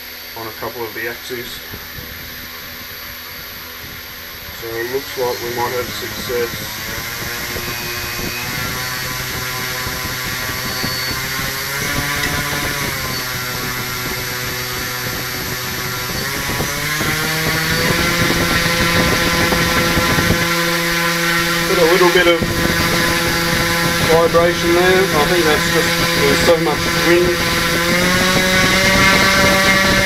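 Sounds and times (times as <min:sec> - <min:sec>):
quadcopter motor whine: 0:00.0 - 0:30.0.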